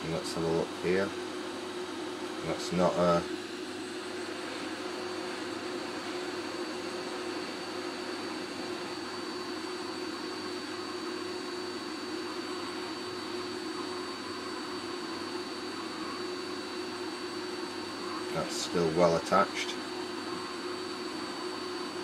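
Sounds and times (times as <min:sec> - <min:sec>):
faint high whine: 0:00.0 - 0:22.0
hot air blower hissing: 0:00.0 - 0:22.0.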